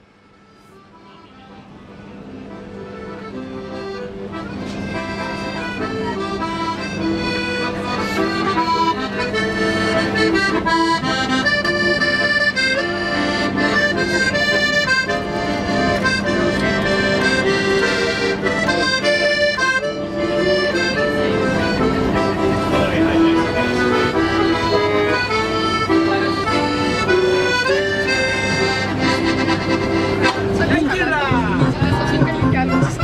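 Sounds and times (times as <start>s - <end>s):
accordion melody: 0.0s - 33.0s.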